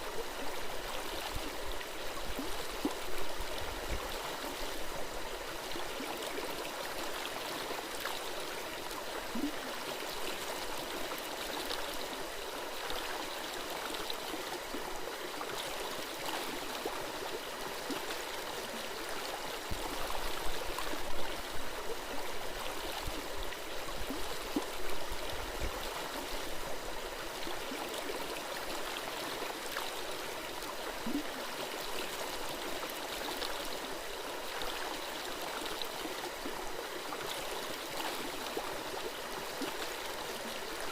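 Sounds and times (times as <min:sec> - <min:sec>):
stream flowing and gurgling: 0:00.0 - 0:40.9.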